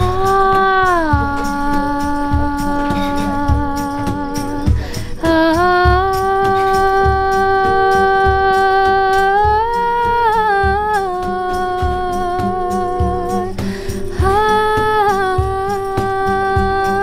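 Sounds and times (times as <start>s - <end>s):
low beat: 0.0s - 17.0s.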